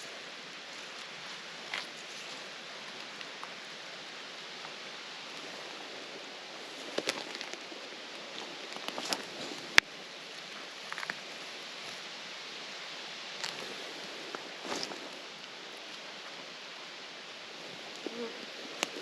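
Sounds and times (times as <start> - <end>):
crackles and rustles: 0.0 - 19.0
steady outdoor hiss: 0.0 - 19.0.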